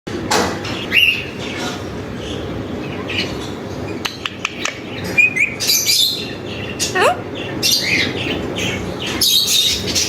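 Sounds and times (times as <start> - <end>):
parakeet squawking: 0.8 - 10.0.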